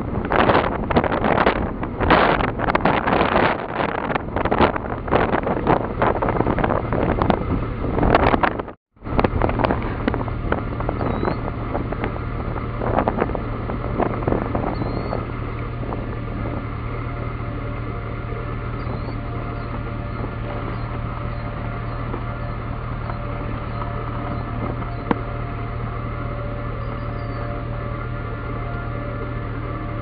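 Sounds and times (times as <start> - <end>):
steady low hum: 0.0 - 30.0
wind buffeting microphone: 0.0 - 30.0.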